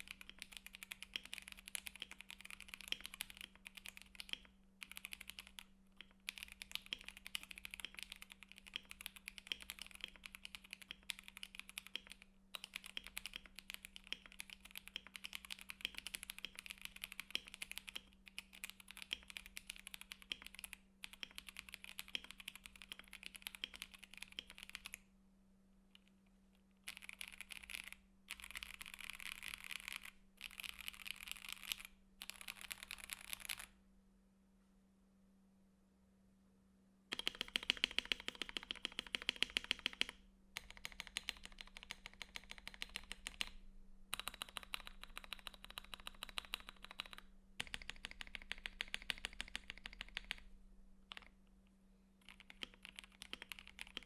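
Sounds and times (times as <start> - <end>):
mechanical keyboard typing: 0.0 - 25.0, 26.8 - 33.7, 37.1 - 50.5, 51.1 - 51.4, 52.2 - 54.0.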